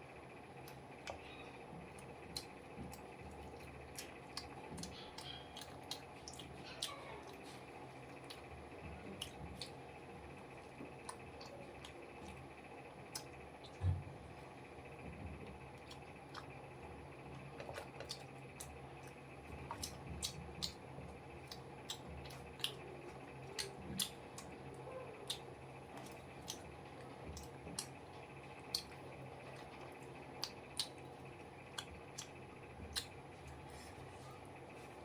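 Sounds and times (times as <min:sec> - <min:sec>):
steady low hum: 0:00.0 - 0:35.0
person chewing with wet smacks: 0:00.6 - 0:35.0.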